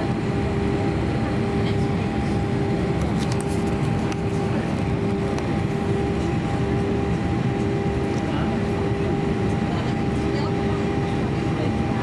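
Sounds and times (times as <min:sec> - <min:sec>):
constant whine: 0:00.0 - 0:12.0
jet engines idling: 0:00.0 - 0:12.0.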